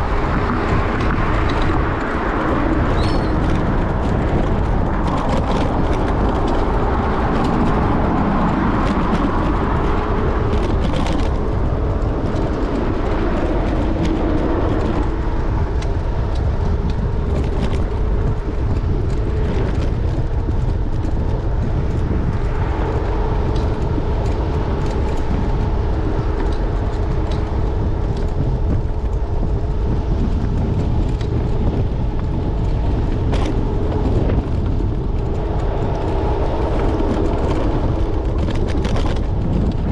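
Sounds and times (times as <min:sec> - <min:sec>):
road rumble: 0:00.0 - 0:39.9
sharp rattles and clicks: 0:00.0 - 0:39.9
steady motor whine: 0:00.0 - 0:39.9
wind: 0:00.0 - 0:39.9.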